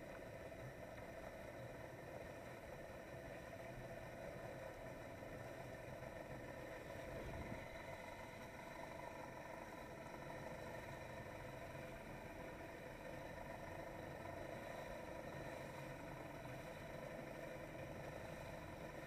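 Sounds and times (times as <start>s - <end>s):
watercraft engine running: 0.0s - 19.0s.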